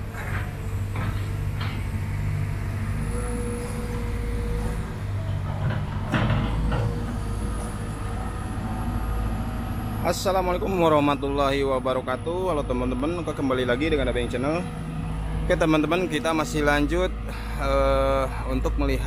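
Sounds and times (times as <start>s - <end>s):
heavy vehicle engine running: 0.0s - 19.0s.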